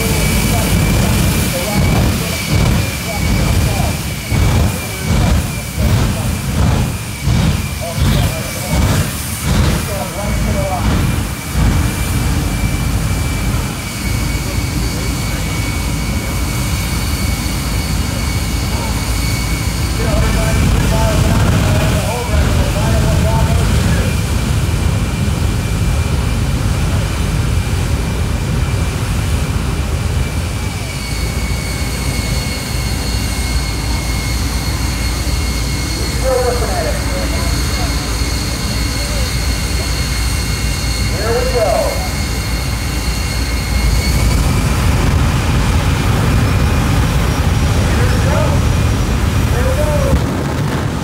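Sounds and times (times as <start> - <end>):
jet engine rumble and whine: 0.0 - 51.0.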